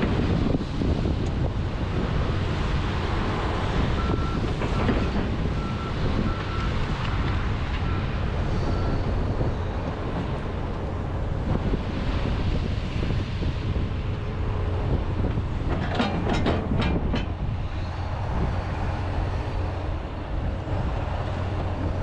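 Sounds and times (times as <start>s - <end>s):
excavator diesel engine running: 0.0s - 12.6s, 13.6s - 22.0s
wind buffeting microphone: 0.0s - 22.0s.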